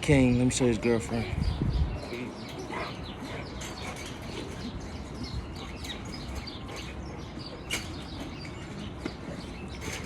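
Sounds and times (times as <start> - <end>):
small birds chirping: 0.1 - 10.0.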